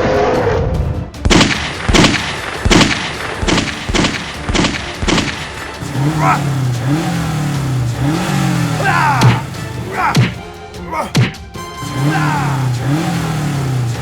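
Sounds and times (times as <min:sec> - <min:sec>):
sharp bangs: 0:01.2 - 0:12.9.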